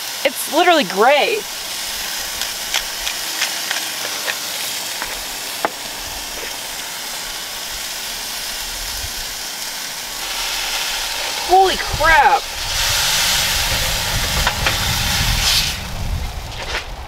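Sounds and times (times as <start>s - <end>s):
burger patties sizzling in a skillet: 0.0s - 16.5s.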